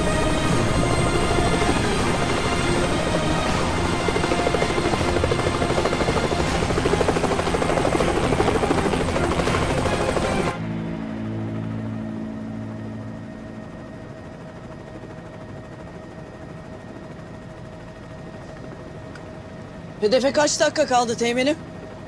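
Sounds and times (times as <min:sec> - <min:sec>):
muffled low cabin drone: 0:00.0 - 0:21.9
helicopter rotor blades chopping: 0:00.0 - 0:22.0
music: 0:00.0 - 0:22.0.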